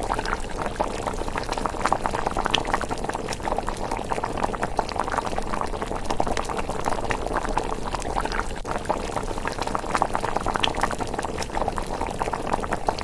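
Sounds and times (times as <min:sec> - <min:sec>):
porridge bubbling and popping: 0:00.0 - 0:13.0.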